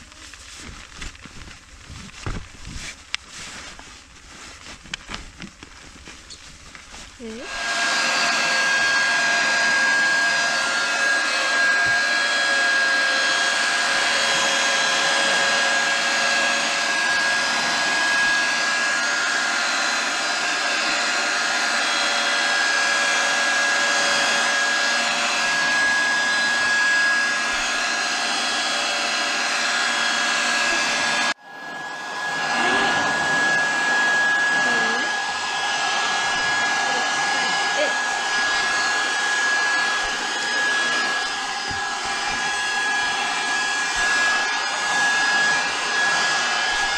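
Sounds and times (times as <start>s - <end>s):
small fan whooshing and whining: 0.0s - 46.9s.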